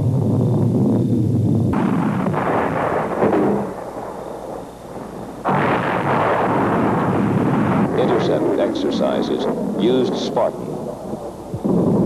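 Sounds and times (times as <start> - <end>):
loud launch blast: 0.0 - 12.0
missile launch roar: 0.1 - 4.3, 5.4 - 12.0.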